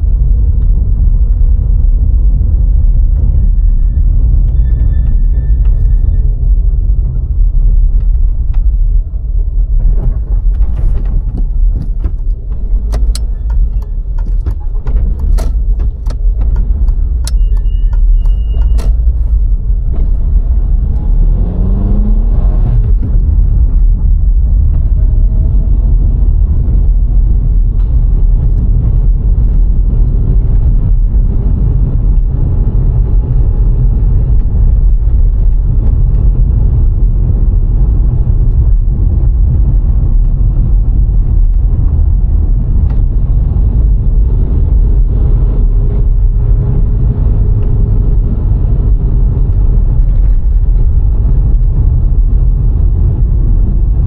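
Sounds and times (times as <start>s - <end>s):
car engine hum: 0.0s - 54.0s
tyre and wind rumble: 0.0s - 54.0s.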